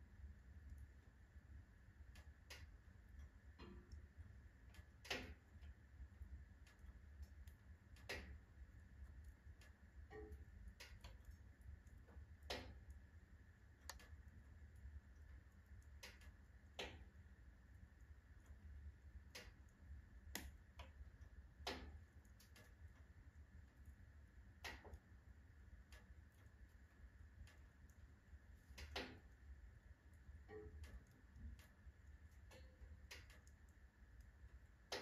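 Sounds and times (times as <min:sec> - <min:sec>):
faint low rumble: 0:00.0 - 0:35.0
firewood crackling and popping: 0:01.7 - 0:35.0.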